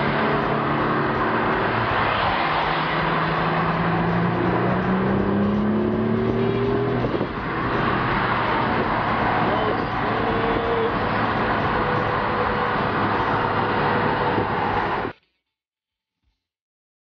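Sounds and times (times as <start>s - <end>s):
car engine accelerating: 0.0s - 15.1s.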